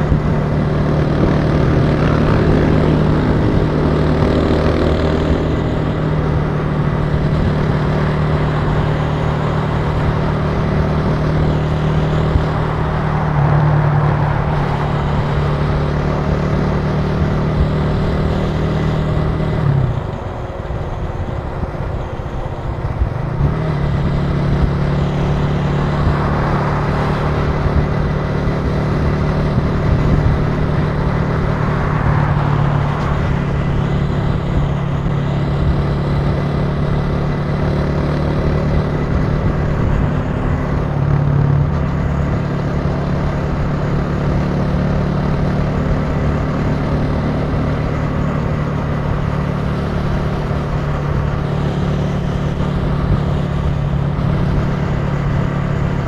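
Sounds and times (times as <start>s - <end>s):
motorcycle engine running: 0.0s - 56.0s
road noise: 0.0s - 56.0s.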